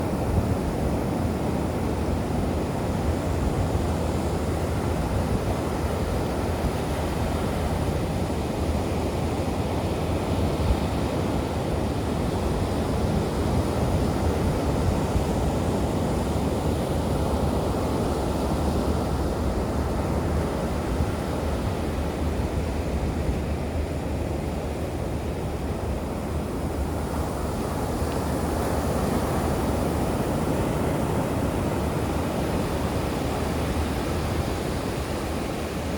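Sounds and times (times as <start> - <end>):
wind: 0.0 - 35.9.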